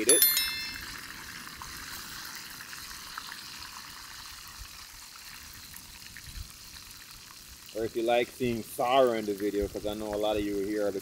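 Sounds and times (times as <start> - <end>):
fish deep-frying in oil: 0.8 - 11.0
small crackles of oil: 2.0 - 11.0.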